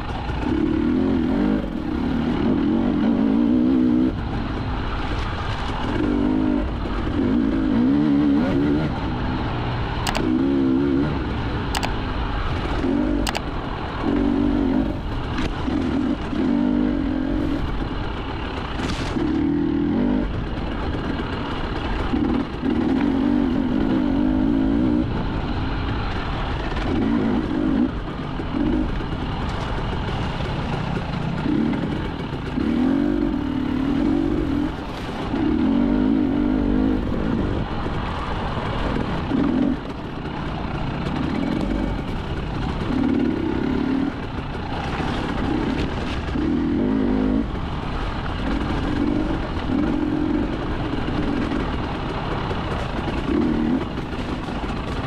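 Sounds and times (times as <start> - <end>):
constant rushing noise: 0.0 - 55.0
motorcycle engine revving: 0.0 - 55.0.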